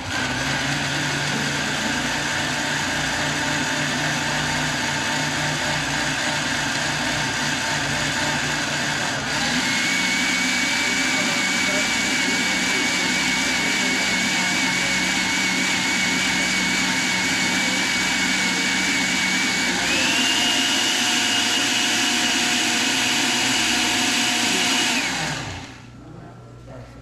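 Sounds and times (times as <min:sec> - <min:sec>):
blender whining: 0:00.0 - 0:26.0.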